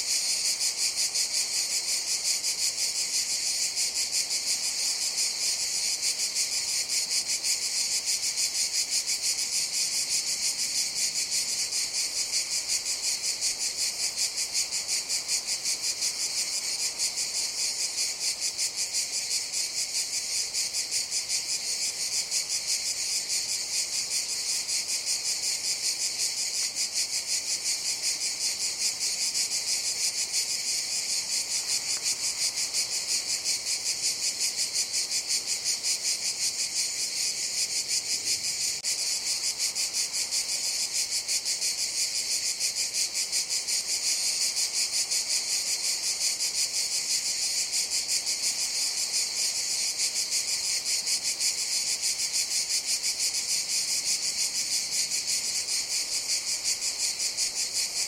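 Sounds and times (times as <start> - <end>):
cicadas singing: 0.0 - 58.0.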